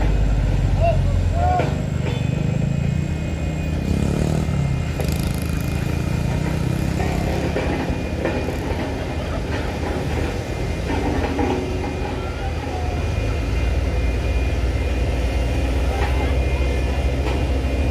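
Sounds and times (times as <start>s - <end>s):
heavy vehicle engine running: 0.0s - 17.9s
road traffic noise: 0.0s - 17.9s.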